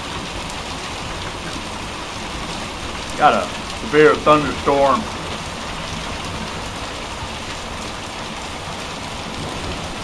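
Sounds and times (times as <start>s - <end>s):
heavy rain with hail: 0.0s - 10.0s.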